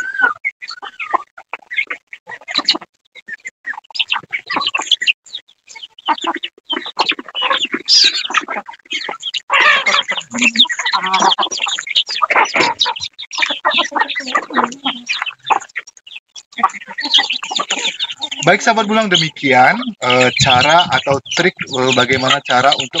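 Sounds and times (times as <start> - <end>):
chickens clucking and calling: 0.0 - 23.0.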